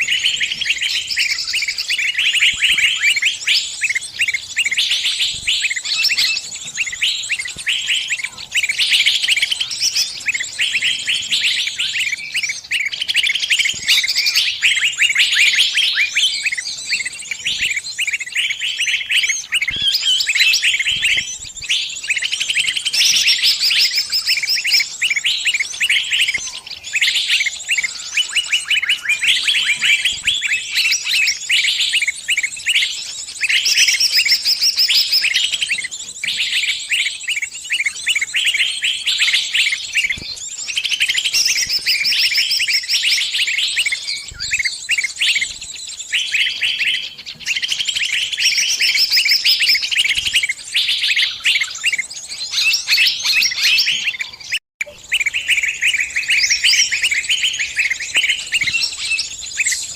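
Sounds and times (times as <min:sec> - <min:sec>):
bird distress chirps: 0:00.0 - 0:59.9.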